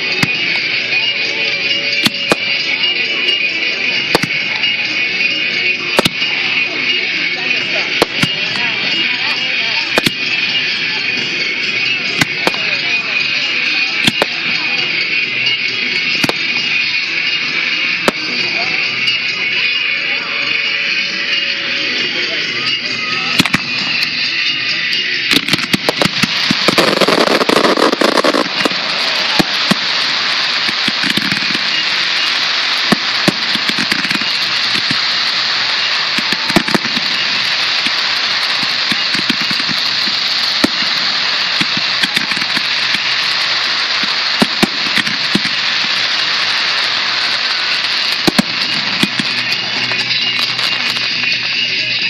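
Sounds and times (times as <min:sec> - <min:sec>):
fireworks crackling and banging: 0:00.0 - 0:52.0.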